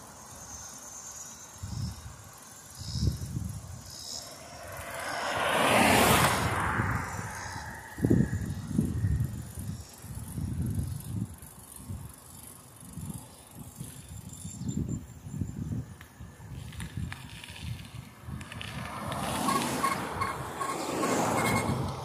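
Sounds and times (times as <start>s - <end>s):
wind buffeting microphone: 1.6s - 22.0s.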